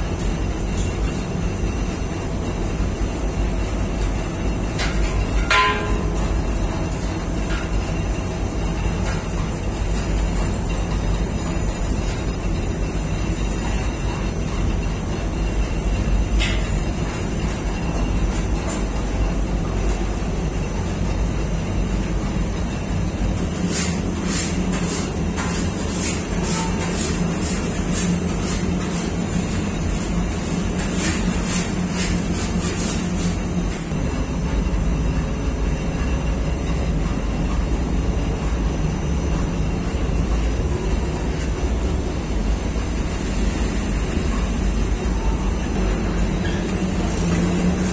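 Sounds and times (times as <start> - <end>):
bakery machinery rumbling: 0.0 - 47.9.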